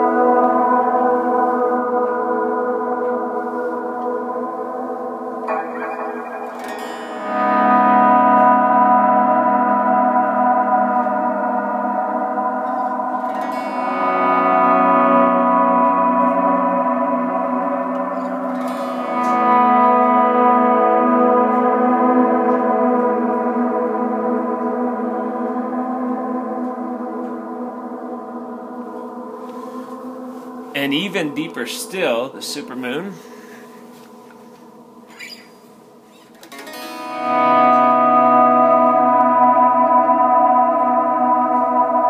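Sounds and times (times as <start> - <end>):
electric guitar chords with reverb: 0.0 - 42.0.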